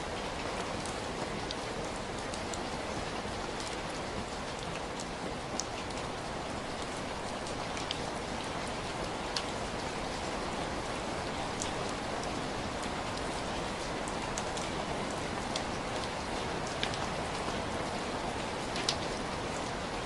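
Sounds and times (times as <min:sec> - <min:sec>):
heavy rain falling: 0:00.0 - 0:20.0
raindrops ticking: 0:00.2 - 0:20.0.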